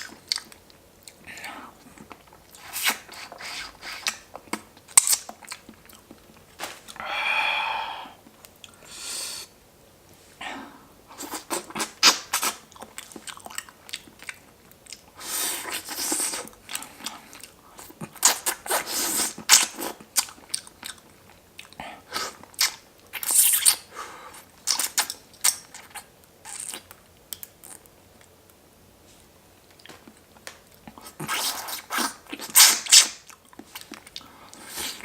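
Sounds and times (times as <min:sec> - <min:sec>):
chewing crunchy food: 0:00.0 - 0:07.0, 0:11.1 - 0:28.6, 0:29.7 - 0:35.0.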